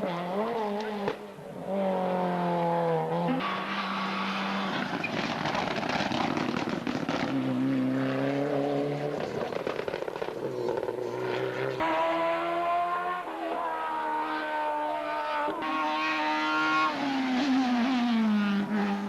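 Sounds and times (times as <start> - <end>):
race car engine changing gears: 0.0 - 19.0.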